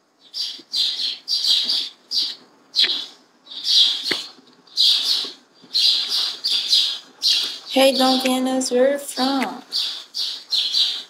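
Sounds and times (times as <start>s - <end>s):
bird chirping: 0.2s - 11.0s.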